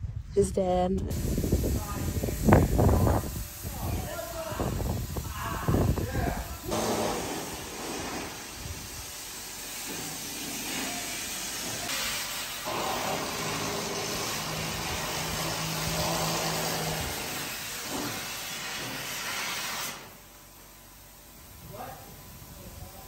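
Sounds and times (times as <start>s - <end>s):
cutting torch hissing: 1.1s - 23.0s.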